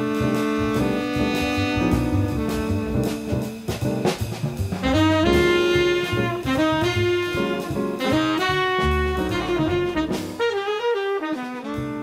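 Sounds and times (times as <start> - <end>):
bass and drums: 0.0 - 12.0
jazzy melody: 0.0 - 12.0.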